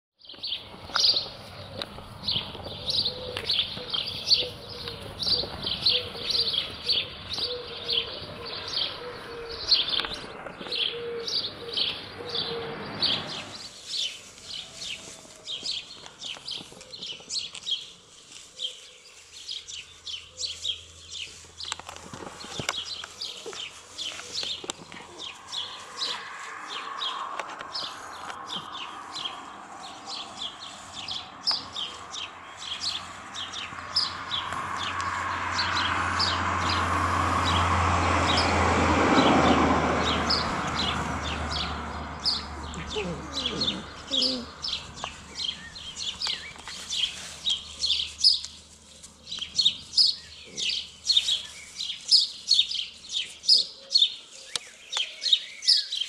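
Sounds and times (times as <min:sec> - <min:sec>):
small birds chirping: 0:00.2 - 0:56.0.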